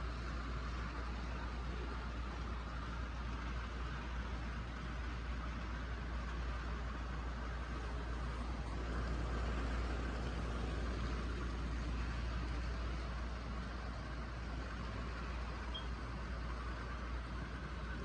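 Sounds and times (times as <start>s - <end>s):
model trains rumbling on track: 0.0s - 18.0s.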